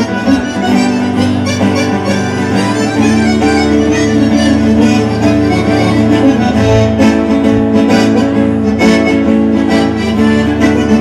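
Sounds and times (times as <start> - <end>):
acoustic band playing folk music: 0.0 - 11.0
plucked acoustic guitar: 0.0 - 11.0.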